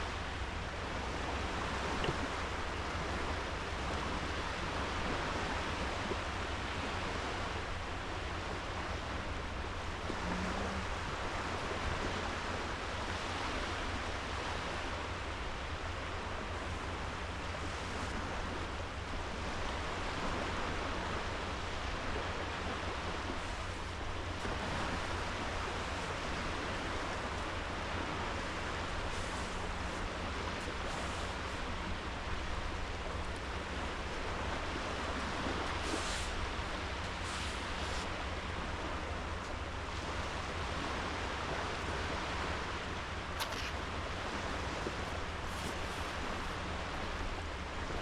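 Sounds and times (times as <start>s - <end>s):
waves washing onto beach: 0.0s - 48.0s.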